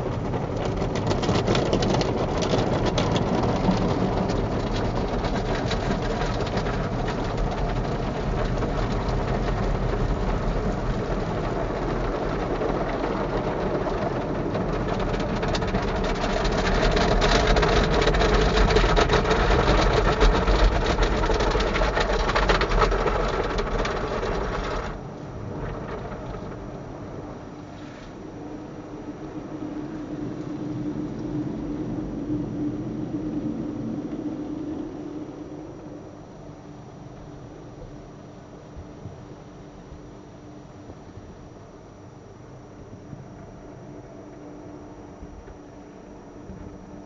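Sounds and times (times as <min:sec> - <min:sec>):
wash machinery running: 0:00.0 - 0:47.0.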